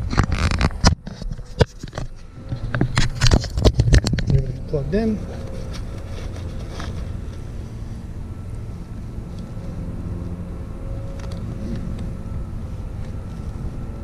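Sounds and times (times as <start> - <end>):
faint steady hum: 0.0 - 14.0
wind rumble on microphone: 0.0 - 14.0.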